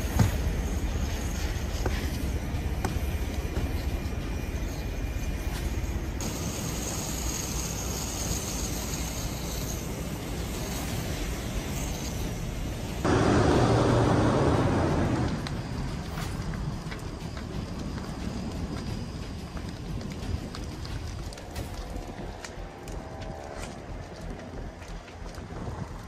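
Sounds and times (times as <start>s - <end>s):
fire roaring: 0.0s - 26.0s
propane tank venting flame: 0.0s - 26.0s.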